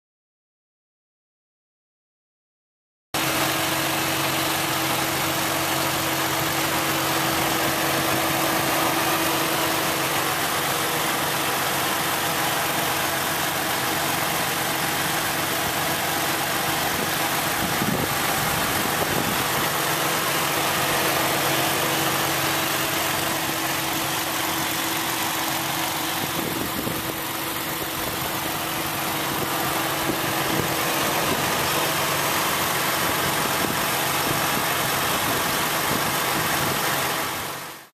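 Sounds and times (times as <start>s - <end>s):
car engine idling: 3.2s - 37.9s.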